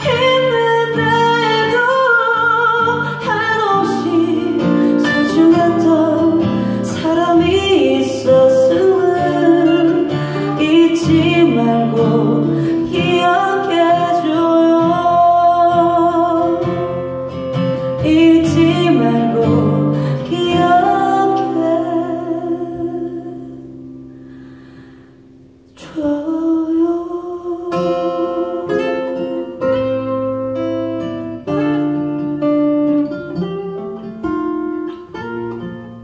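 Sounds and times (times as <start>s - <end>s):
woman singing a slow ballad: 0.0s - 23.8s, 25.7s - 30.4s, 31.4s - 32.3s
acoustic guitars: 0.0s - 36.0s.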